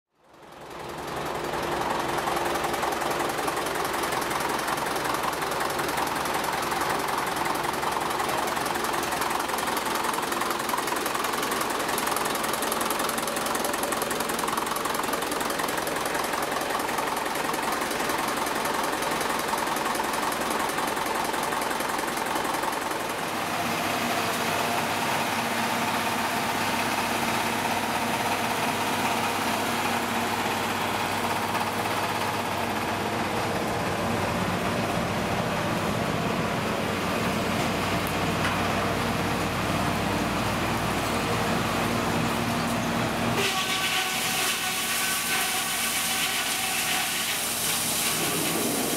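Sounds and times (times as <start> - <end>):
stationary engine humming: 0.2 - 48.9.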